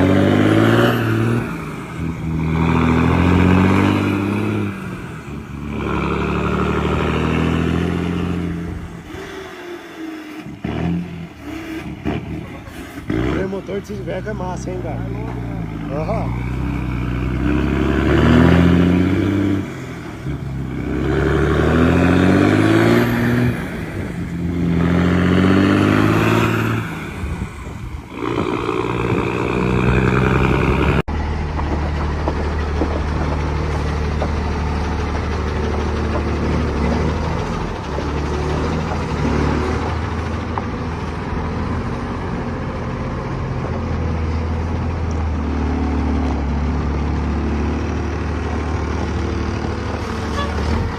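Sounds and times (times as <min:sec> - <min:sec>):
truck diesel engine: 0:00.0 - 0:50.9.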